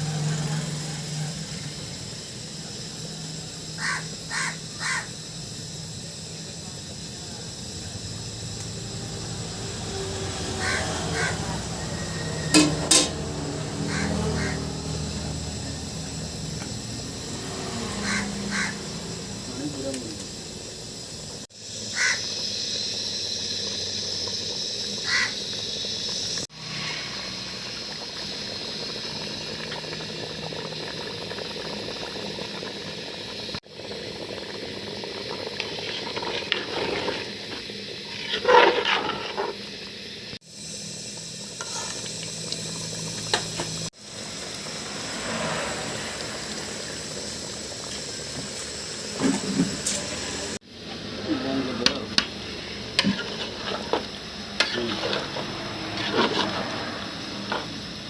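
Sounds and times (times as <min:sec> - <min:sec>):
curry sizzling in a pot: 0:00.0 - 0:58.0.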